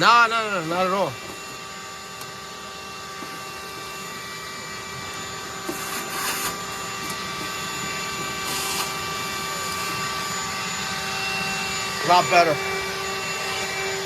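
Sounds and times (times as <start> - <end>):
small electric motor whine: 0.0 - 14.0.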